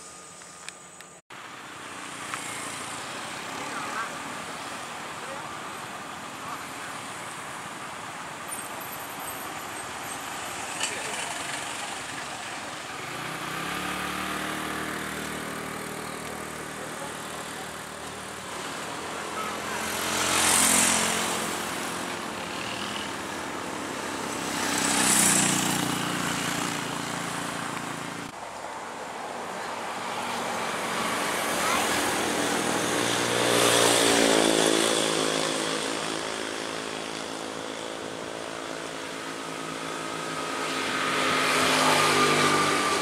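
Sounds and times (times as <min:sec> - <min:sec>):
vehicles passing loudly: 0:00.0 - 0:43.0.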